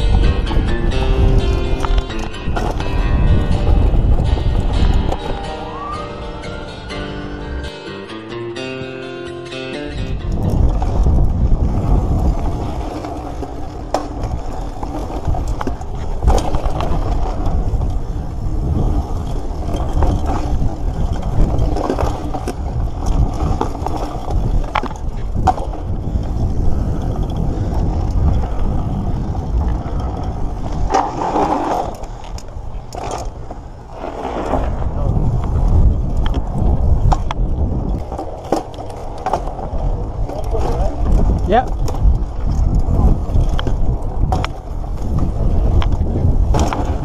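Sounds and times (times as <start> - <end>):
bike knocks and rattles: 0.0 - 5.4, 10.2 - 47.0
bike tyres crunching over gravel: 0.0 - 5.9, 10.2 - 47.0
wind rumbling on microphone: 0.0 - 7.7, 9.9 - 47.0.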